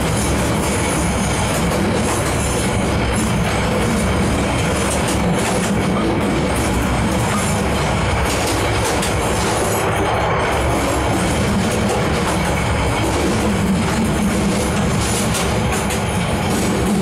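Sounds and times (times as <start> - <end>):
rattles and clacks: 0.0 - 17.0
train wheels rumbling on rails: 0.0 - 17.0.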